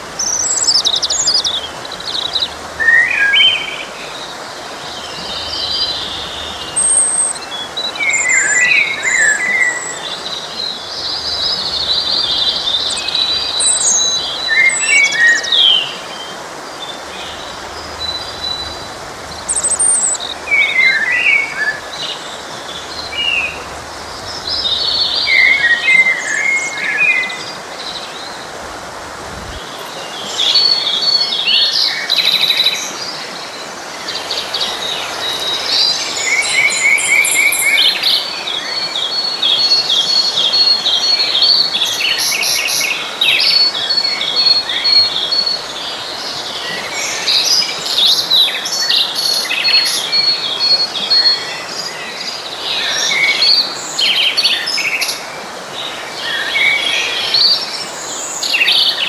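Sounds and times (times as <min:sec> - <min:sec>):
forest stream rushing: 0:00.0 - 0:59.0
songbirds singing and chirping: 0:00.0 - 0:59.0.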